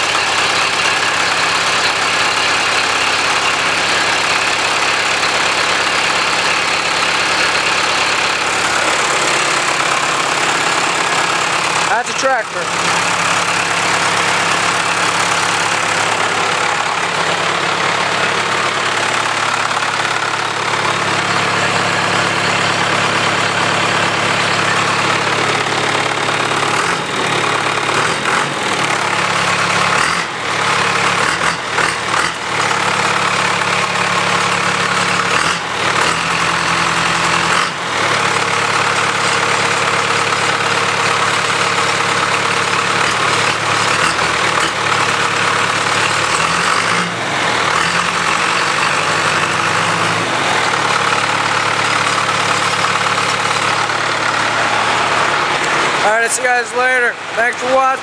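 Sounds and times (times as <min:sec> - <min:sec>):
diesel engine idling with clatter: 0:00.0 - 0:58.0.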